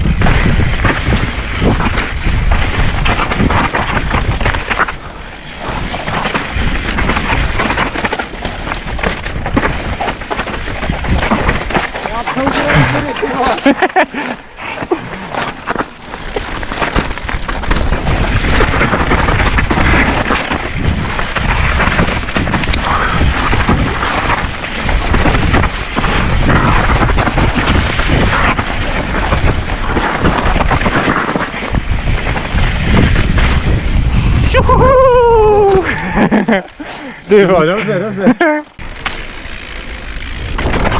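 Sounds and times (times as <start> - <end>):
tyres rolling over rock and dirt: 0.0 - 34.4, 36.1 - 40.9
bike rattling: 0.0 - 40.9
wind buffeting microphone: 0.0 - 40.9.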